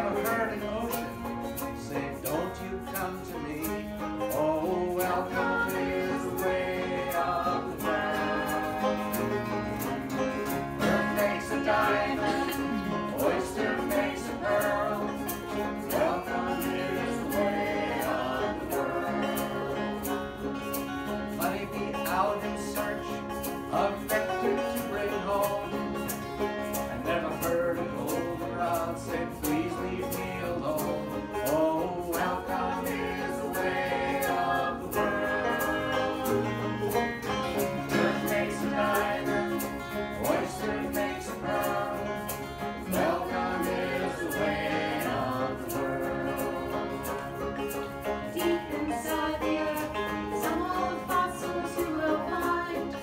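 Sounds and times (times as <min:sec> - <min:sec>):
acoustic guitar strumming: 0:00.0 - 0:53.0
banjo picking: 0:00.0 - 0:53.0
voices singing: 0:00.0 - 0:53.0.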